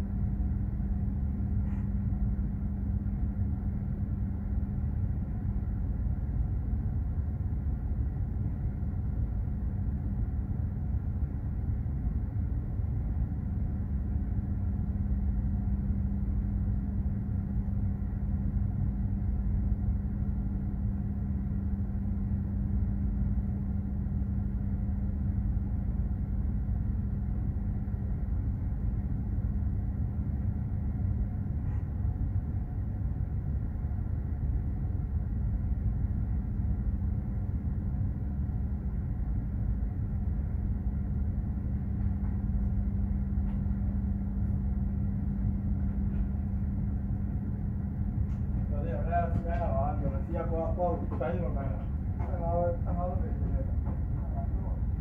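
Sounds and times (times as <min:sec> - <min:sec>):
ship low rumble and hum: 0:00.0 - 0:55.0.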